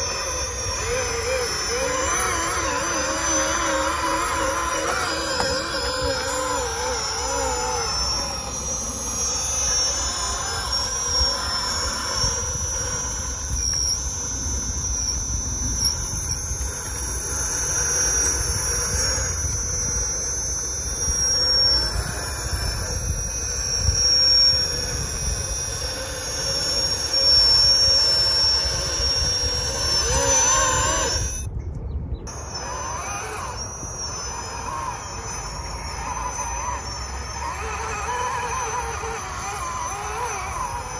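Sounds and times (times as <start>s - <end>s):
toy truck motor whining: 0.0s - 40.9s.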